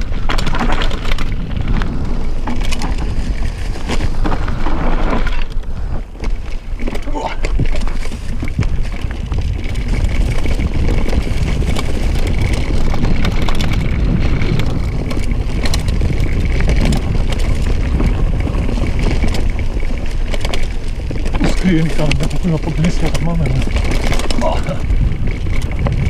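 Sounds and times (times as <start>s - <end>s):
bike rattling and clicking: 0.0s - 26.0s
wind rumbling on microphone: 0.0s - 26.0s.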